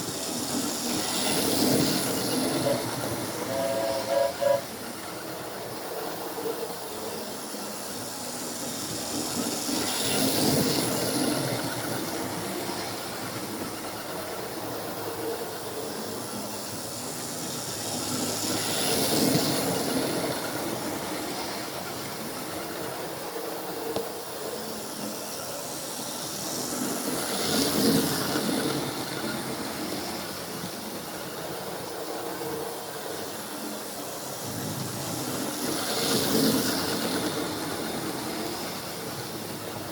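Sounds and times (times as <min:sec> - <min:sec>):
model train wheels rumbling: 0:00.0 - 0:39.9.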